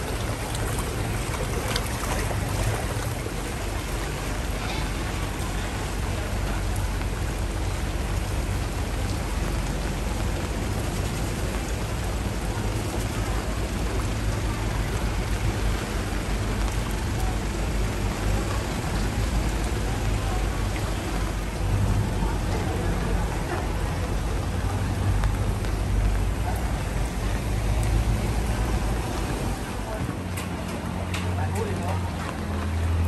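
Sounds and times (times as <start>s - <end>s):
heavy low rumble: 0.0s - 33.0s
rushing floodwater: 0.0s - 33.0s.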